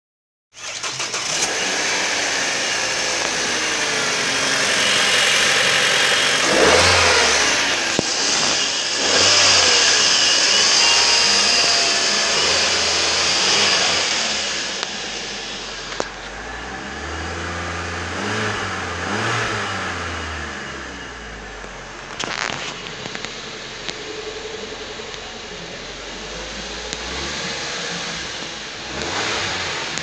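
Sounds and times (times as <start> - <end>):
car engine revving: 0.6 - 30.0.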